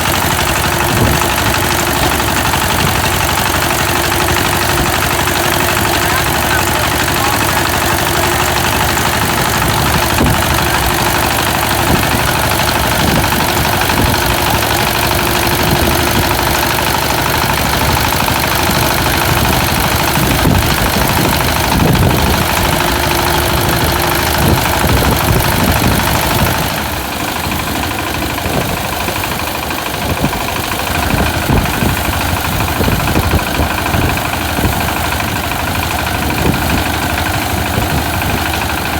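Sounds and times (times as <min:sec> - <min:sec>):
harvester engine running: 0:00.0 - 0:38.9.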